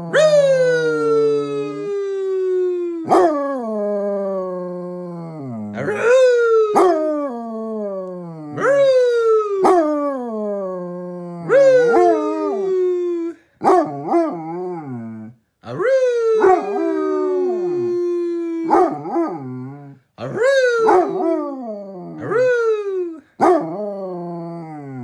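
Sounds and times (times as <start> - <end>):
dog howling: 0.0 - 25.0.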